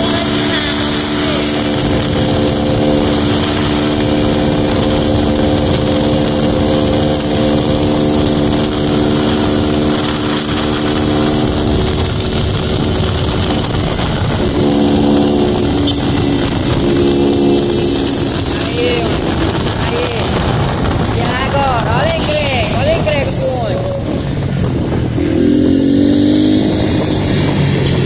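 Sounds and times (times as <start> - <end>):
motorcycle engine running: 0.0 - 28.0
wind rushing over microphone: 0.0 - 28.0.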